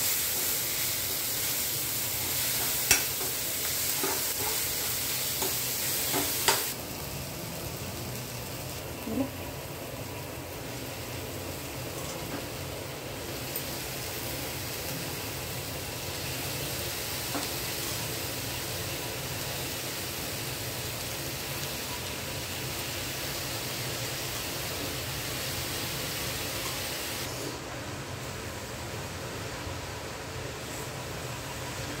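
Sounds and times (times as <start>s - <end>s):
frying hiss in pan: 0.0s - 32.0s.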